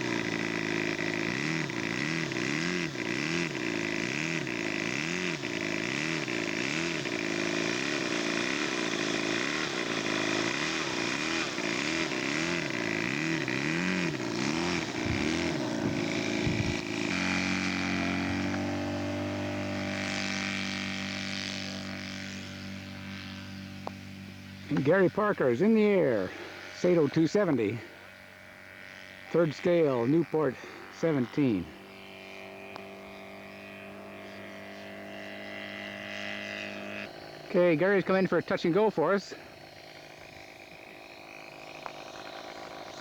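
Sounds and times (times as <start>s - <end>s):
model aircraft engine running: 0.0s - 43.0s.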